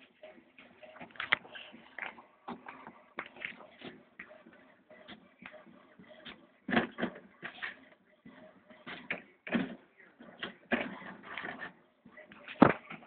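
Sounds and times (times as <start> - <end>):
printer whirring and clacking: 0.0 - 13.0.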